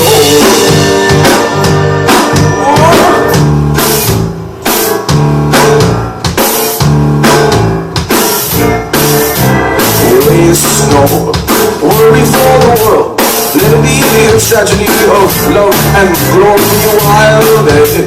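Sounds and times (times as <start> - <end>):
drum kit beat: 0.0 - 18.0
rock band playing: 0.0 - 18.0
sustained bass: 0.0 - 18.0.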